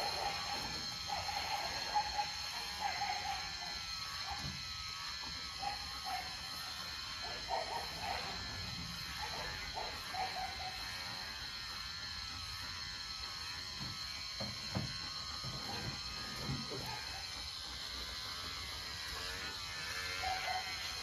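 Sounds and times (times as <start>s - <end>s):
electric hair clippers whining: 0.0s - 21.0s.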